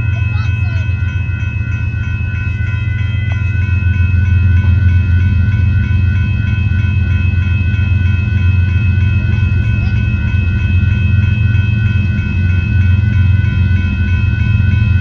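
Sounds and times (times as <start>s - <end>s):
crossing bell ringing: 0.0s - 15.0s
freight train rumble: 0.0s - 15.0s.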